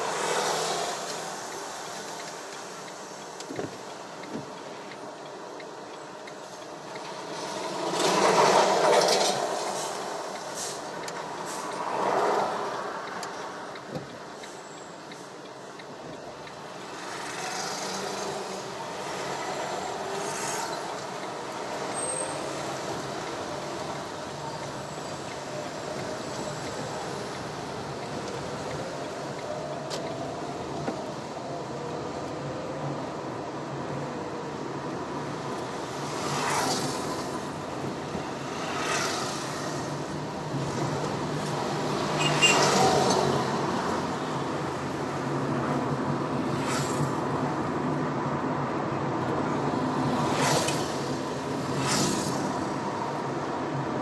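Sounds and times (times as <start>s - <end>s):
bus running alongside: 0.0s - 54.0s
car engine and road noise: 0.0s - 54.0s
passing traffic: 0.0s - 54.0s.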